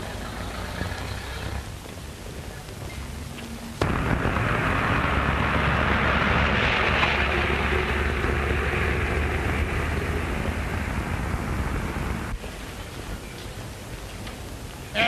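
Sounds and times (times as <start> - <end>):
car engines running: 0.0 - 12.4
traffic noise: 0.0 - 15.0.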